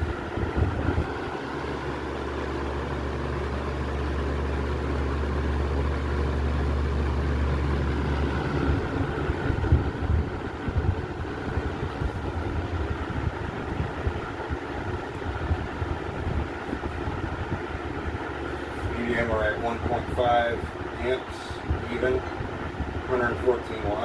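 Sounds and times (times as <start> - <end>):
gusty low rumbling: 0.0 - 2.8, 6.8 - 24.0
box fan running: 0.0 - 24.0.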